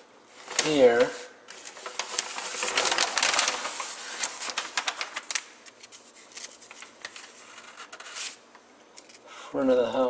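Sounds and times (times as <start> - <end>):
paper sheets rustling: 0.3 - 8.4.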